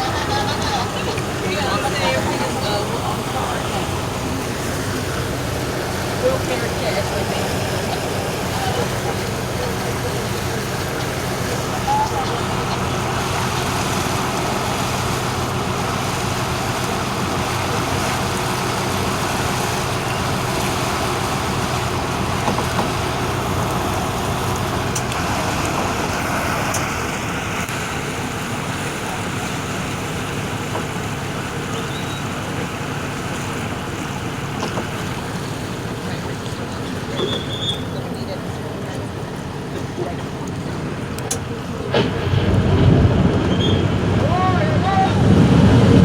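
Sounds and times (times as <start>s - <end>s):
motorboat engine hum: 0.0s - 46.0s
water rushing: 0.0s - 46.0s
wind: 0.0s - 46.0s.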